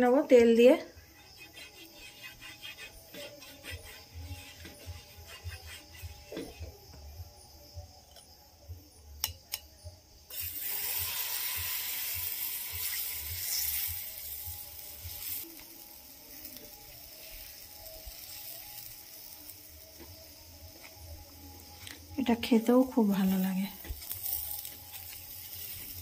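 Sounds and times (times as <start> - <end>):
batter sizzling on hot pan: 1.0 - 6.9, 10.2 - 26.0.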